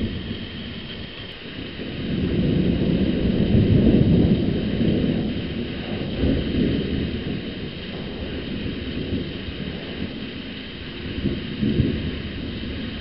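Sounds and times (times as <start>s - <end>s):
rain hissing: 0.0s - 13.0s
thunder rumbling: 0.0s - 13.0s.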